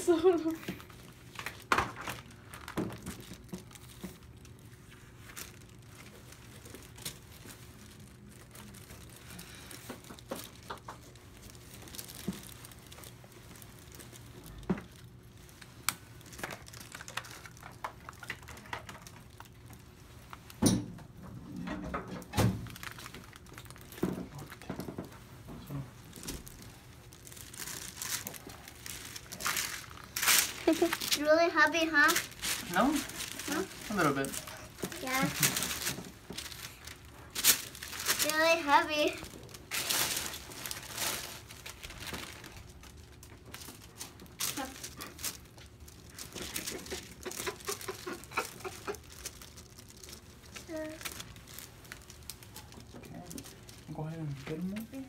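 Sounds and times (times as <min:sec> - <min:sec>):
faint steady hum: 0:00.0 - 0:55.0
paper liner crinkling: 0:00.8 - 0:20.6, 0:22.6 - 0:24.7, 0:26.0 - 0:54.9.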